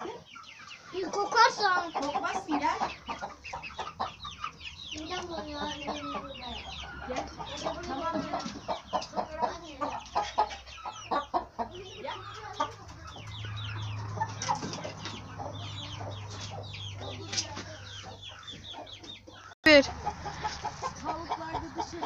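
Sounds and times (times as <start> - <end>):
chickens clucking: 0.0 - 22.0
chicks peeping: 0.0 - 22.0.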